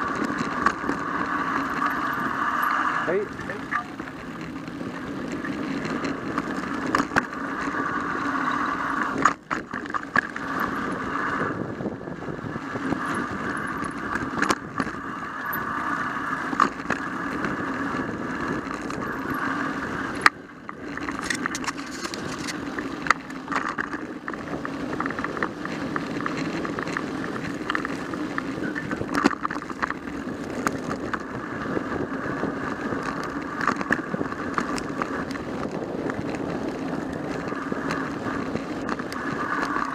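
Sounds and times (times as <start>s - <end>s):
bike frame rattling: 0.0s - 39.9s
bike tyres rumbling on dirt: 0.0s - 39.9s.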